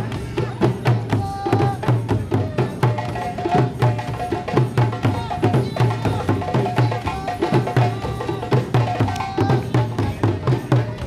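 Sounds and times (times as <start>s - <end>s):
hand drums playing rhythm: 0.0s - 11.0s.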